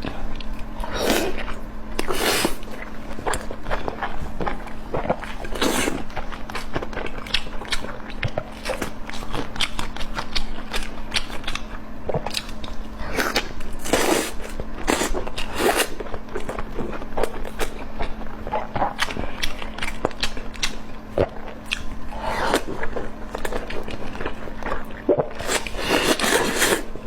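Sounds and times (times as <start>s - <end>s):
person biting and chewing food: 0.4s - 27.0s.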